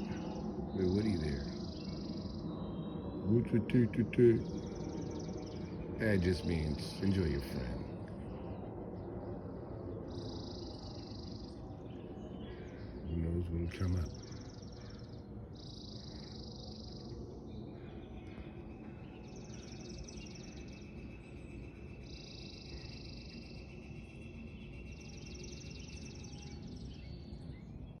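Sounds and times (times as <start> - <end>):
songbirds singing: 0.0 - 28.0
steady low background noise: 0.0 - 28.0.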